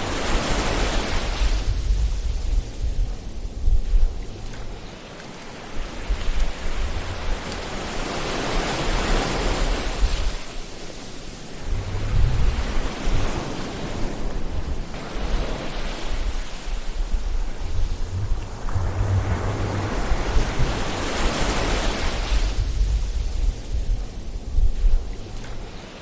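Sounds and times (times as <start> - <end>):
ocean surf washing in: 0.0 - 26.0.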